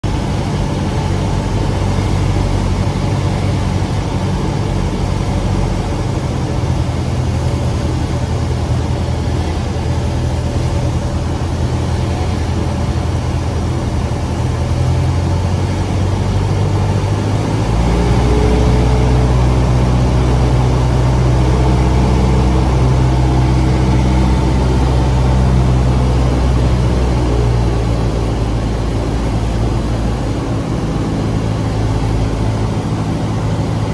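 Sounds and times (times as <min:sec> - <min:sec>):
propeller engine droning: 0:00.0 - 0:33.9.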